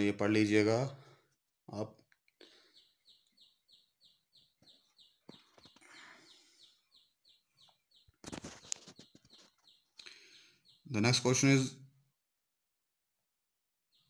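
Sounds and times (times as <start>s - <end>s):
faint bird chirping: 0.0s - 11.8s.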